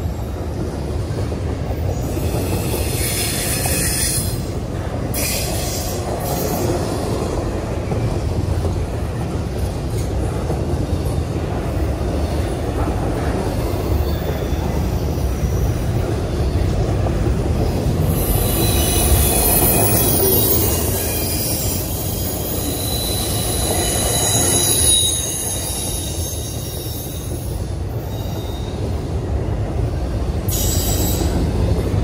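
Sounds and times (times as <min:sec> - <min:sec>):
steel wheels rumbling on rail: 0:00.0 - 0:32.0.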